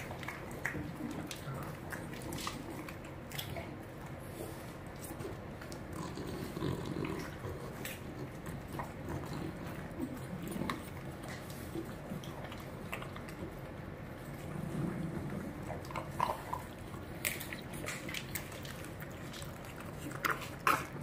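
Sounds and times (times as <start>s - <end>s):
dog chewing crunchy treats: 0.0s - 21.0s.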